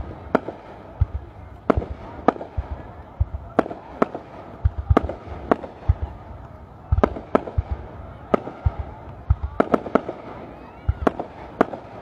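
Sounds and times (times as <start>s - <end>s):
distant fireworks cracking: 0.0s - 12.0s
low fireworks booms: 0.0s - 12.0s.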